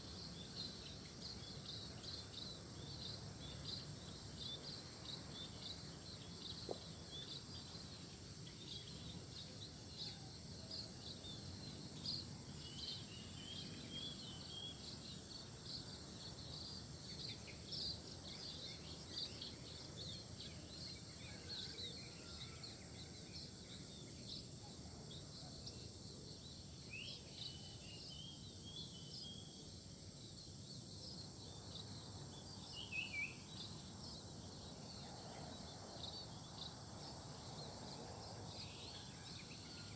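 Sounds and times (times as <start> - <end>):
low background noise: 0.0 - 39.9.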